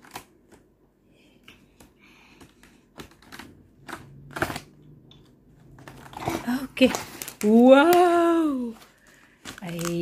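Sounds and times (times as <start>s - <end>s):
cards clicking and rustling: 0.0s - 0.7s, 1.5s - 8.1s, 8.7s - 10.0s.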